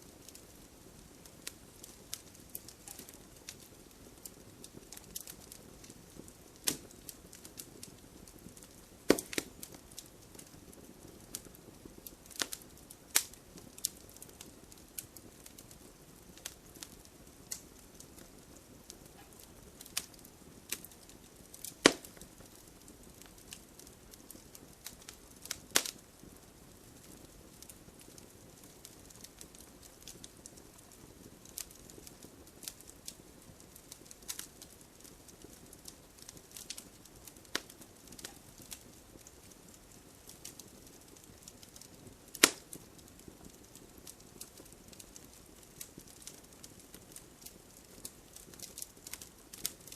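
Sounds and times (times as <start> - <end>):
logs crackling in fireplace: 0.0 - 49.9
low rumble of flames: 0.0 - 49.9.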